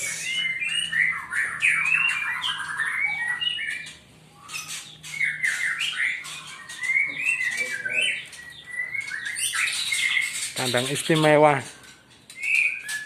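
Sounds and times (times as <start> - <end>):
caged songbirds chirping: 0.0 - 13.0.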